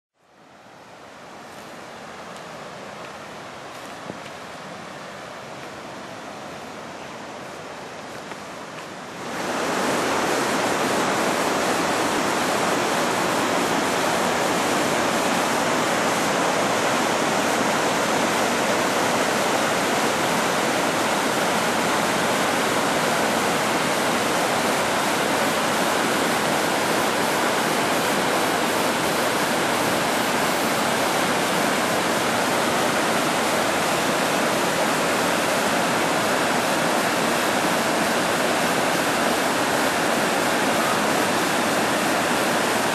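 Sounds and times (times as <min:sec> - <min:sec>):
river rapids rushing over rocks: 0:00.5 - 0:42.9.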